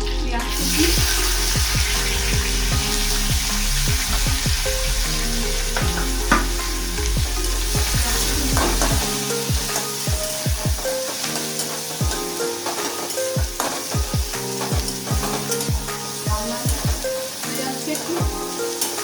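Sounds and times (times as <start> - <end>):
onions sizzling in oil: 0.5 - 19.0.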